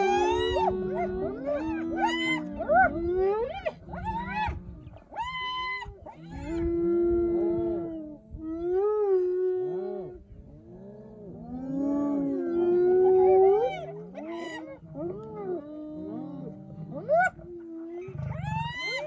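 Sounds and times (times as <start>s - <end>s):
hyenas wailing and whooping: 0.0s - 8.0s, 11.5s - 19.0s.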